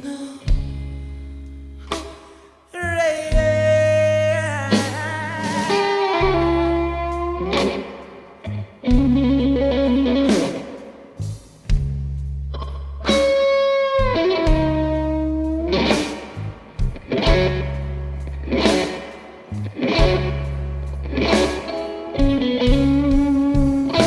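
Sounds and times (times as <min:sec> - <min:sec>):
blues electric guitar lead: 0:00.0 - 0:24.0
low bass notes: 0:00.5 - 0:02.2, 0:02.8 - 0:10.6, 0:11.2 - 0:24.0.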